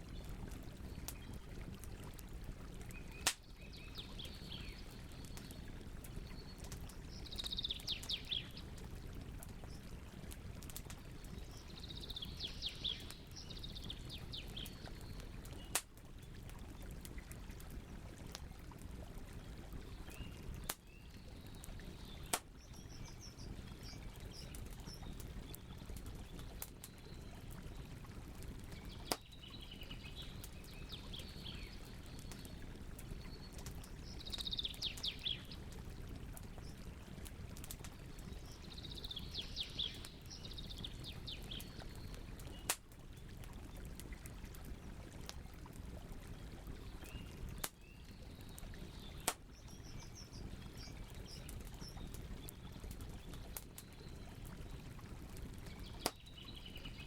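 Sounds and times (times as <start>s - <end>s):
campfire burning with pops: 0.1s - 57.0s.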